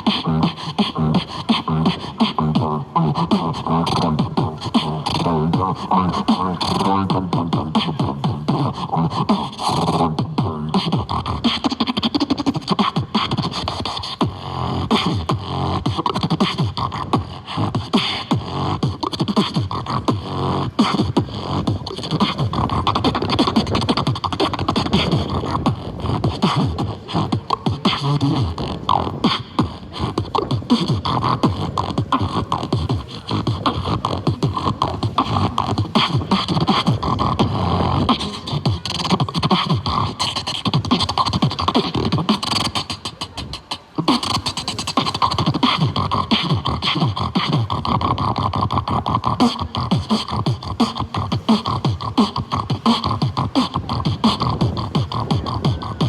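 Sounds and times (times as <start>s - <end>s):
beatboxing vocal drum sounds: 0.0s - 56.0s.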